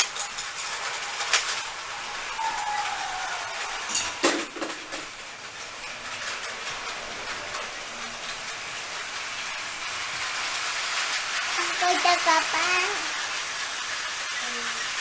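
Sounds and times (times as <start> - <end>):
toy train motors whirring: 0.0 - 15.0.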